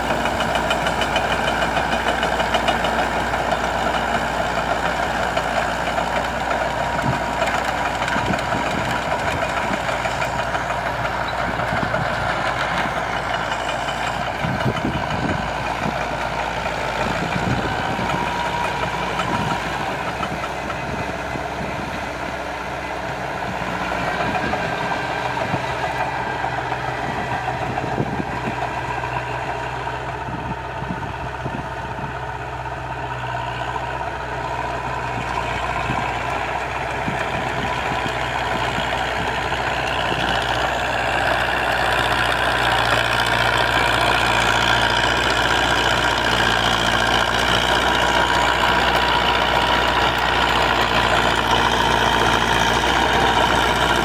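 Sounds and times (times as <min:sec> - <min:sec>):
rotary tiller churning soil: 0:00.0 - 0:29.5, 0:34.0 - 0:54.0
tractor diesel engine running: 0:00.0 - 0:54.0.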